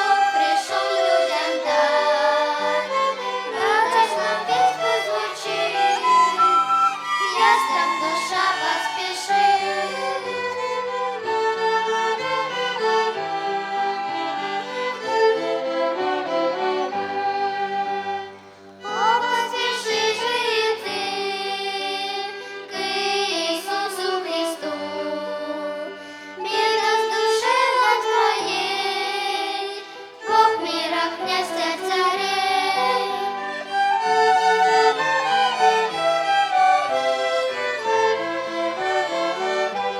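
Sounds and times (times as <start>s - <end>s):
children singing: 0.0s - 39.9s
violin ensemble playing: 0.0s - 39.9s.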